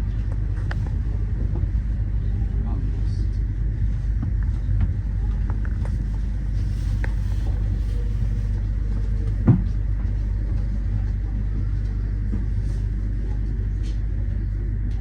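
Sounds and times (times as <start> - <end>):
train wheels rumbling on rails: 0.0 - 14.1.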